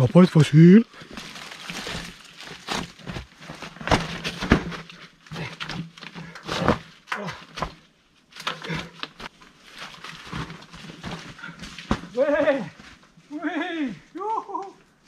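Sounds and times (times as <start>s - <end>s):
bike tyres scraping over stones: 0.0s - 13.3s.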